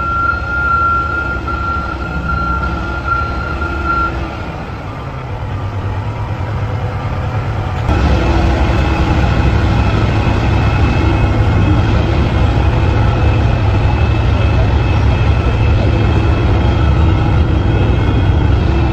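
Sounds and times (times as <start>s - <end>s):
dump truck engine rumbling: 0.0s - 18.9s.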